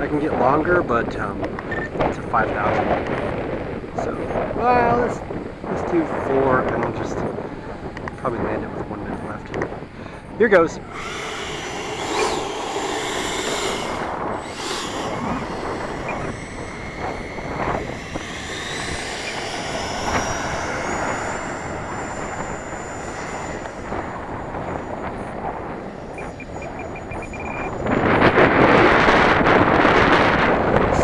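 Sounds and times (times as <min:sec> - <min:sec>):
electric ducted fan whining: 0:00.0 - 0:31.0
wind noise on microphone: 0:00.0 - 0:31.0.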